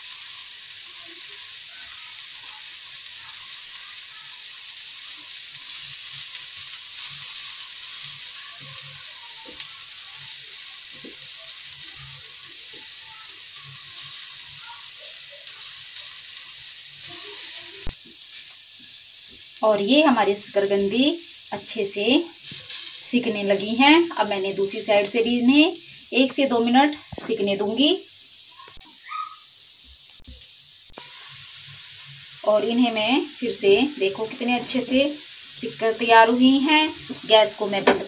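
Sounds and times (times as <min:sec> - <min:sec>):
sweet potato sizzling in a pan: 0:00.0 - 0:38.0.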